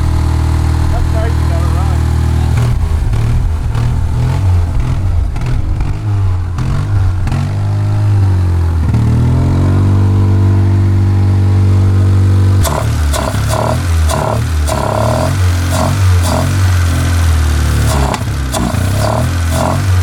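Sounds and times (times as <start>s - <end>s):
car engine running rough: 0.0s - 20.0s.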